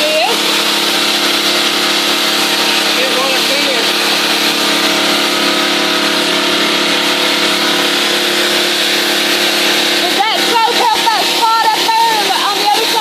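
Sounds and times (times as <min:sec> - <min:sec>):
high-pressure water spray hiss: 0:00.0 - 0:13.0
pressure washer engine drone: 0:00.0 - 0:13.0.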